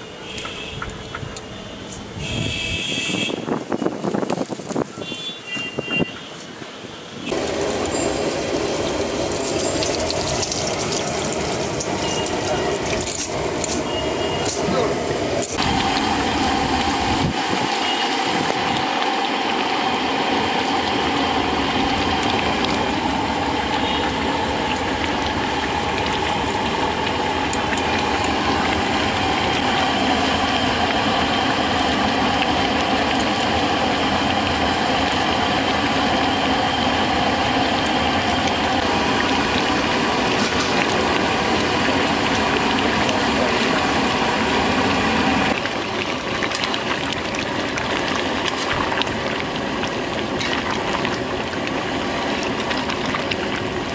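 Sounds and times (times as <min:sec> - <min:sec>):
loud mechanical hum: 0:07.0 - 0:53.9.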